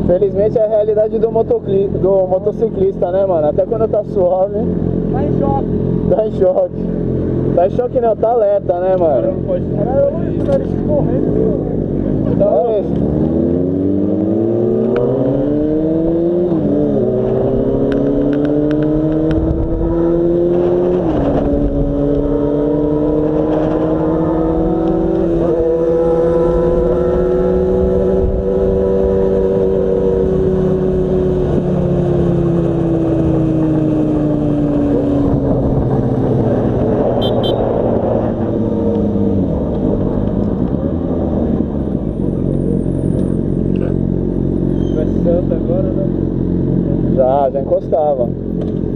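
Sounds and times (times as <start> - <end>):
motorcycle engine accelerating: 0.0 - 48.9.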